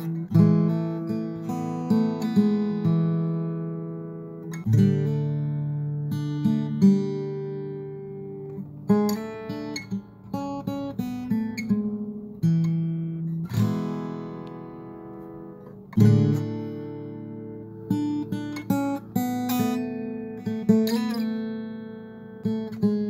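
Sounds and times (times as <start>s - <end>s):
acoustic guitar picking and strumming: 0.0s - 23.0s.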